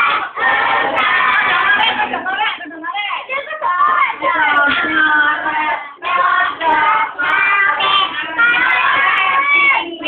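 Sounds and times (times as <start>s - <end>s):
children singing together: 0.0s - 2.4s, 3.6s - 10.0s.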